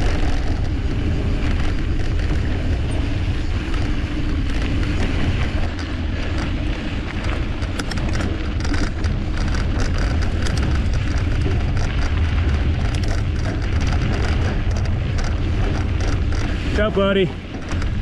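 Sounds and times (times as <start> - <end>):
bike clicks and rattles: 0.0 - 18.0
low tyre rumble on dirt: 0.0 - 18.0
wind buffeting microphone: 0.0 - 18.0.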